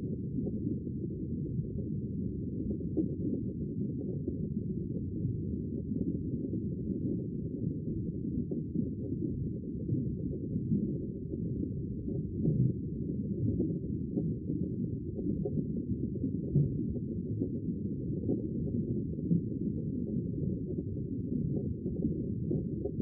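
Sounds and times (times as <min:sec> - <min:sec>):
muffled underwater water noise: 0:00.0 - 0:23.0.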